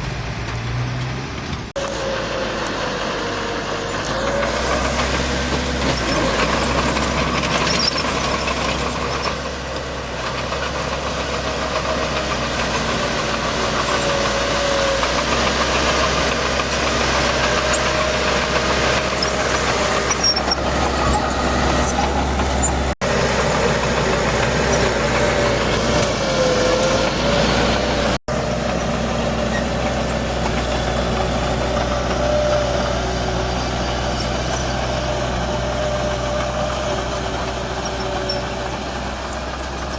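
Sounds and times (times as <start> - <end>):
heavy diesel machinery engine drone: 0.0 - 39.9.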